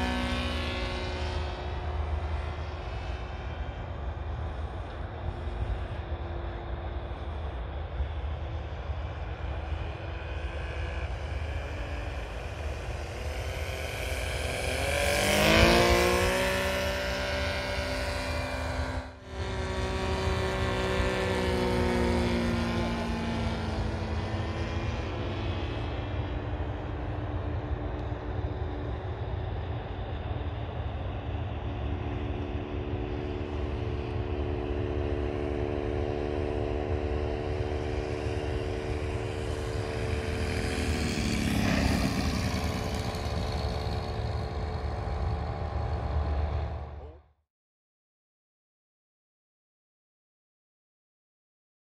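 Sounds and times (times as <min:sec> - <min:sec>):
model plane engine flying past: 0:00.0 - 0:47.2.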